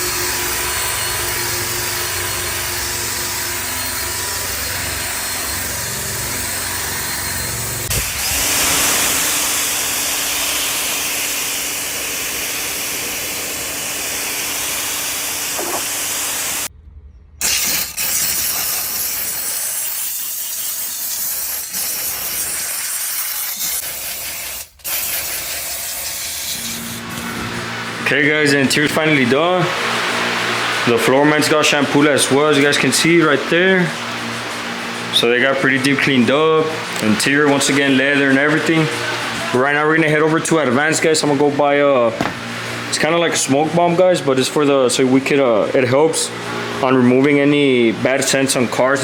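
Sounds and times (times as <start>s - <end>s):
cleaning machine motor hissing: 0.0s - 16.7s, 17.5s - 49.0s.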